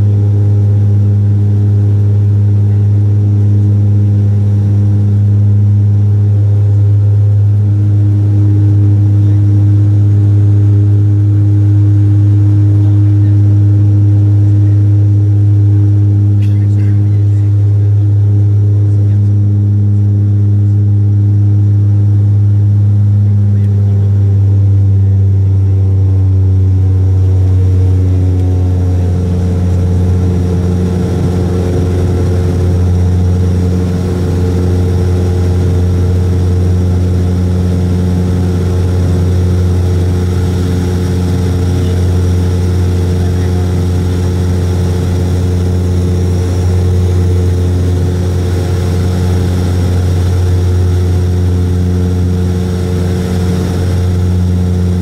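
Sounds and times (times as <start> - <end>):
low engine hum: 0.0 - 55.0
propeller drone in cabin: 0.0 - 55.0.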